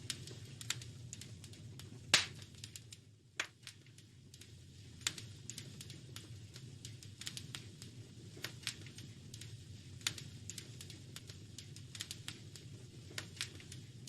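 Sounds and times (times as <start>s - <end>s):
low fire rumble: 0.0s - 14.0s
wood fire popping and snapping: 0.0s - 14.0s.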